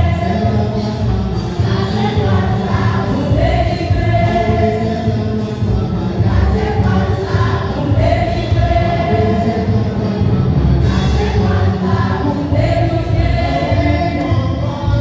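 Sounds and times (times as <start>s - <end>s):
choir singing a hymn: 0.0s - 15.0s
musical accompaniment: 0.0s - 15.0s.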